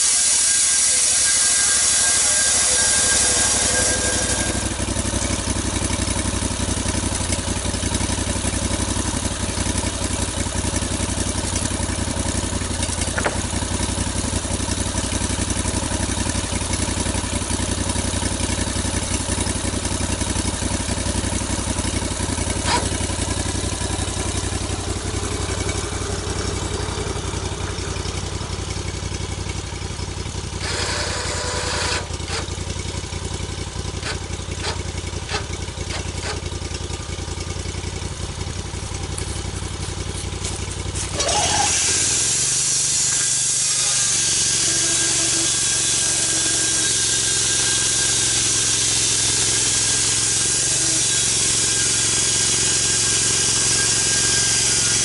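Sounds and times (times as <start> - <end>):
saw cutting into log: 0.0 - 28.8, 30.4 - 33.0, 33.6 - 36.7, 39.2 - 55.0
saw engine idling and revving: 0.0 - 55.0
engine knocks: 1.9 - 55.0.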